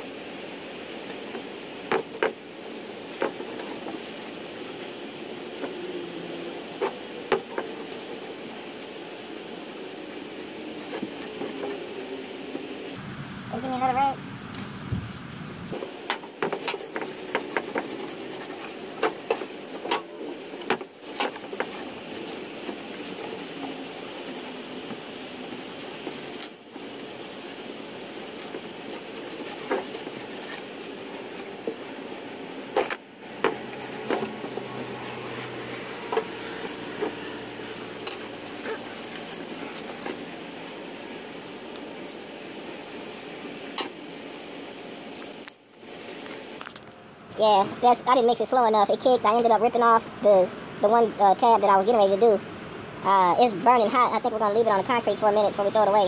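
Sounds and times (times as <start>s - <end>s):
rag rubbing and wiping: 0.0s - 46.6s, 53.1s - 56.0s
steady background hiss: 0.0s - 56.0s.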